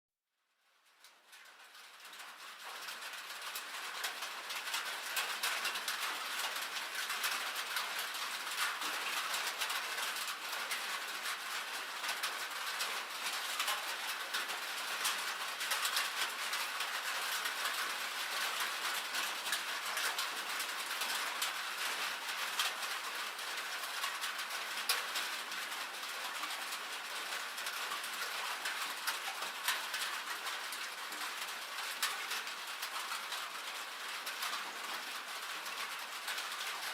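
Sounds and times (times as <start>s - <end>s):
rain and hail on metal roof: 0.8s - 36.9s.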